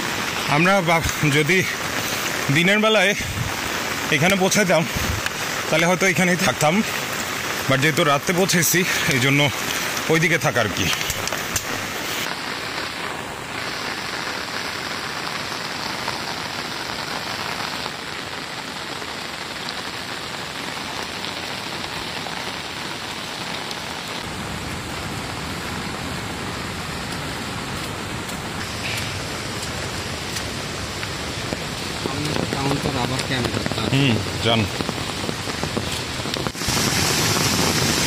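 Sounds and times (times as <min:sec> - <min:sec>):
rain falling steadily: 0:00.0 - 0:38.0.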